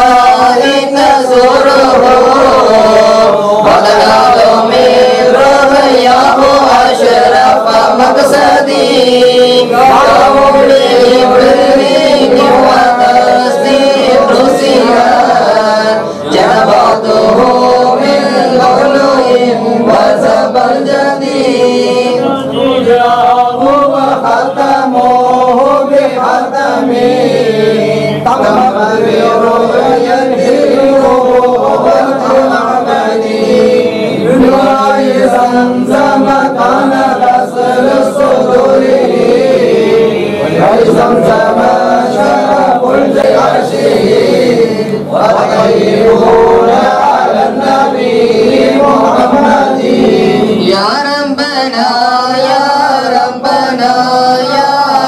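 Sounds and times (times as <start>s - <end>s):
men chanting a hymn: 0.0s - 55.0s.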